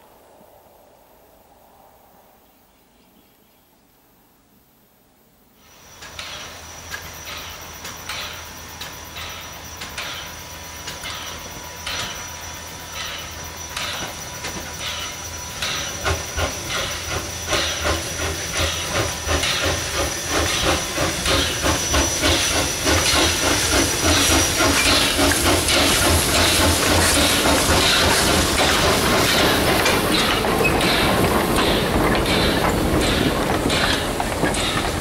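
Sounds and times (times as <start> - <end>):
steam hissing: 5.6 - 35.0
steam locomotive chuffing: 5.6 - 35.0.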